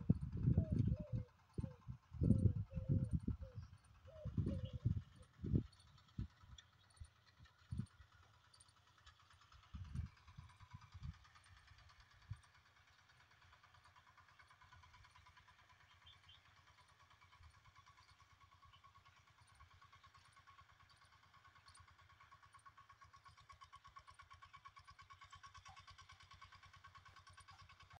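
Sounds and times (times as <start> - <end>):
distant tractor engine running: 0.0 - 28.0.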